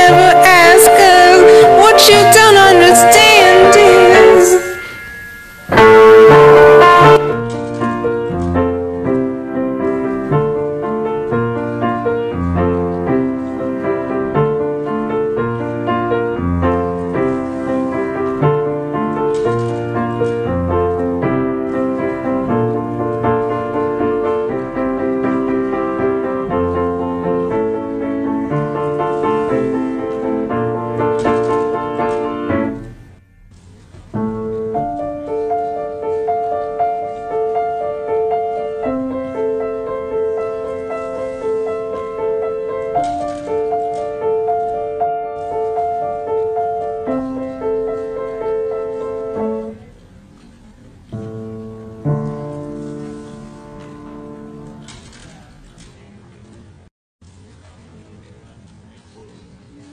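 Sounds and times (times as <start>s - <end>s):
piano chords over bass line: 0.0s - 33.1s, 34.1s - 49.8s.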